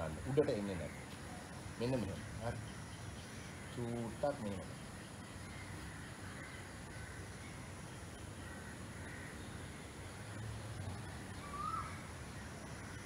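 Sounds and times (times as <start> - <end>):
distant bird calls: 0.0 - 13.0.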